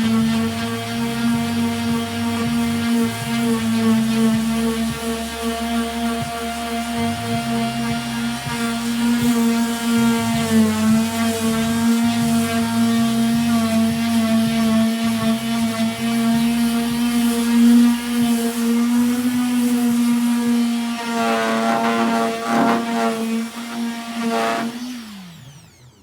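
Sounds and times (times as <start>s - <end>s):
power sander on sheet metal: 0.0s - 26.0s.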